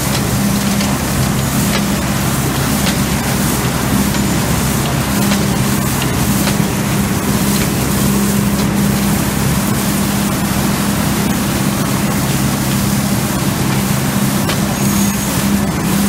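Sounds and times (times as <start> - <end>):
engine hum: 0.0 - 16.0
leaf vacuum rushing air: 0.0 - 16.0.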